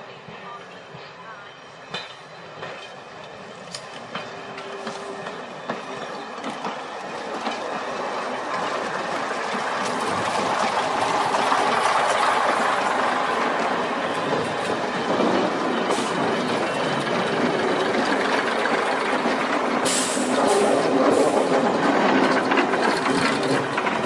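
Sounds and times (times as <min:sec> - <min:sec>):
train rolling rumble: 0:00.0 - 0:24.0
wheel clicks over rail joints: 0:03.6 - 0:12.9, 0:13.5 - 0:24.0.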